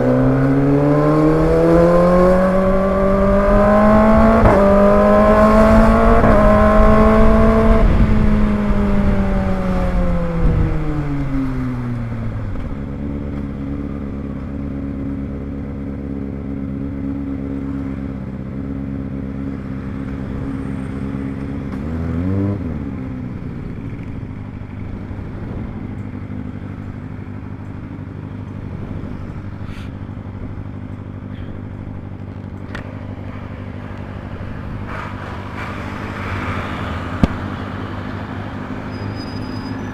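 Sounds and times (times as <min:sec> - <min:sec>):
motorcycle engine revving and idling: 0:00.0 - 0:35.7.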